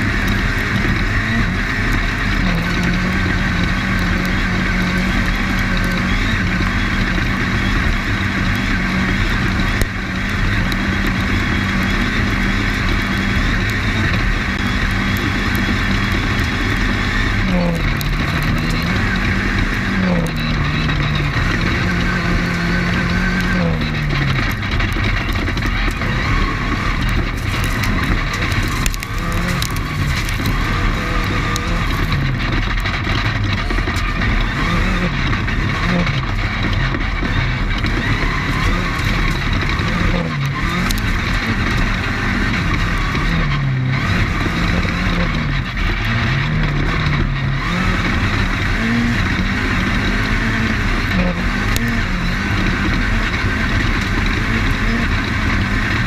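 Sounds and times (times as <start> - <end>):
car rattling over rough dirt: 0.0 - 56.0
race car engine revving: 0.0 - 56.0.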